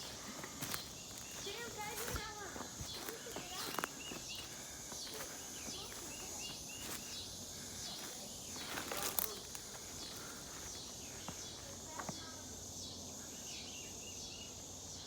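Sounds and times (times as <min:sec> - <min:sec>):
footsteps on forest floor: 0:00.0 - 0:12.5
insects chirping: 0:00.0 - 0:15.0.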